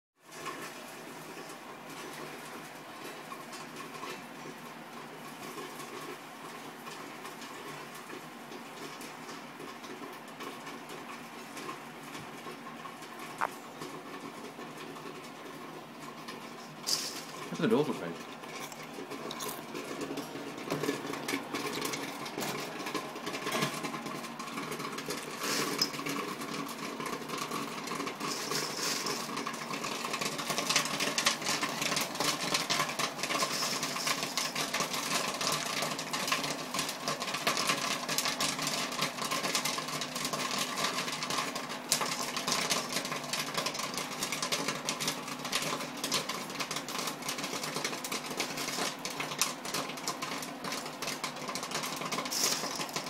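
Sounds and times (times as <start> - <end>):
popcorn popping: 0.2 - 53.0.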